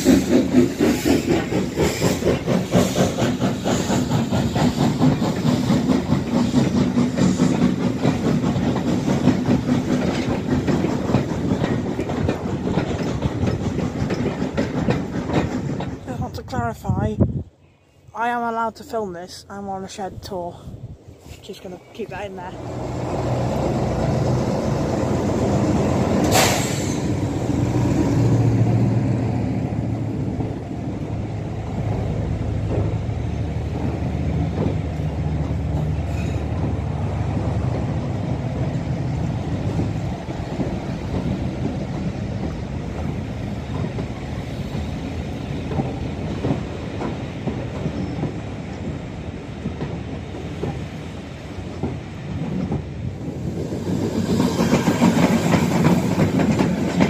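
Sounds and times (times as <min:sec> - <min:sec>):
train wheels clicking over rail joints: 0:00.0 - 0:16.5, 0:22.6 - 0:57.0
diesel locomotive engine: 0:00.0 - 0:57.0.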